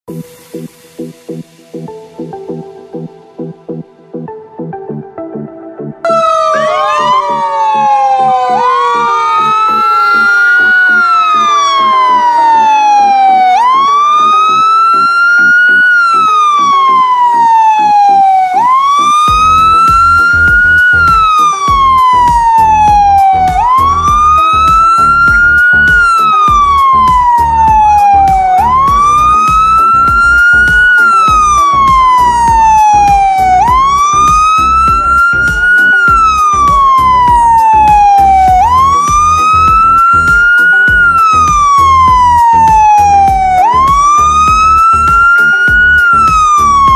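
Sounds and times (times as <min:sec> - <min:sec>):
emergency vehicle siren wailing: 0:04.9 - 0:46.9.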